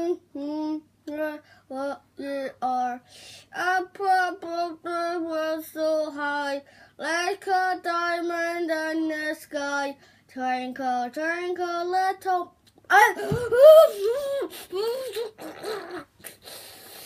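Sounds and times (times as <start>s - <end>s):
girl singing unaccompanied: 0.0s - 15.5s.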